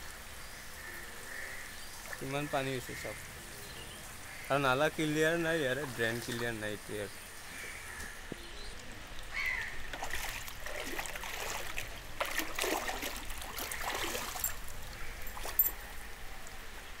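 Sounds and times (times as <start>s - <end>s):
water splashes: 1.3s - 3.4s, 4.0s - 17.0s
floodwater sloshing and trickling: 1.5s - 17.0s.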